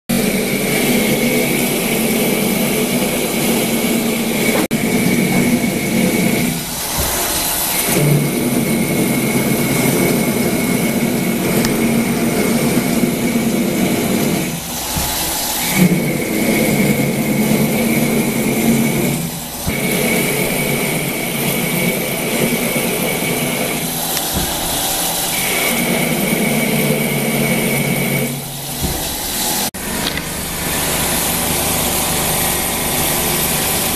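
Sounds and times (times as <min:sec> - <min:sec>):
coolant spray hiss: 0:00.1 - 0:33.9
lathe machining with high tone: 0:00.1 - 0:33.9.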